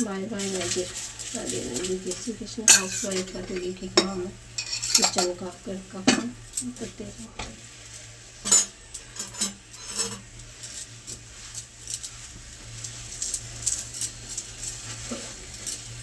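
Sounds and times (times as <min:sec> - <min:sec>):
steady low hum: 0:00.0 - 0:16.0
utensils and dishes clinking: 0:00.4 - 0:07.6, 0:08.4 - 0:16.0.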